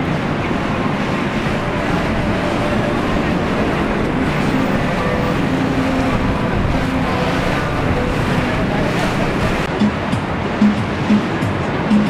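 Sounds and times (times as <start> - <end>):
motorboat engines running: 0.0 - 12.0
water noise: 0.0 - 12.0
wind: 0.0 - 12.0.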